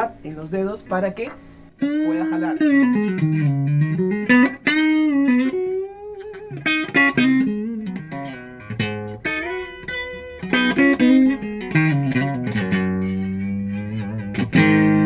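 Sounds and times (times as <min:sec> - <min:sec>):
electric guitar lead with string bends: 0:01.4 - 0:15.0.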